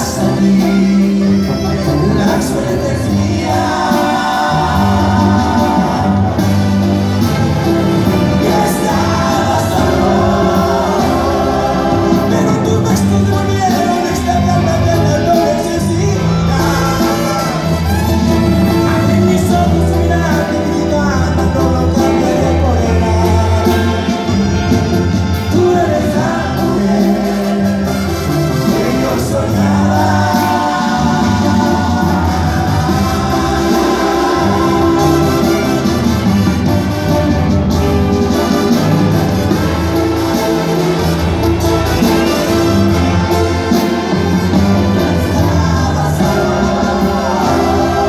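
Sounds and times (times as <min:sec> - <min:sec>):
brass band playing: 0:00.0 - 0:48.0.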